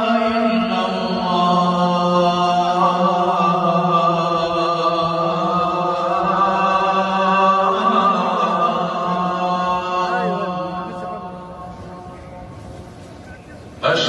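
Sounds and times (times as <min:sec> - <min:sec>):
person chanting: 0:00.0 - 0:12.5.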